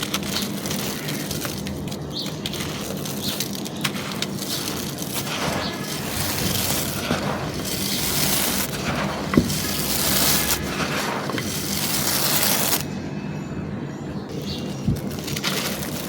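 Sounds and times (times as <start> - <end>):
dry material crushed and crumbled: 0.0 - 12.9, 14.4 - 16.0.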